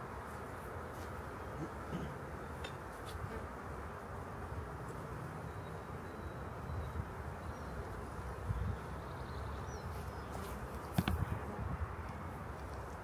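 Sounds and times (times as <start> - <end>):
honeybees buzzing: 0.2 - 12.8.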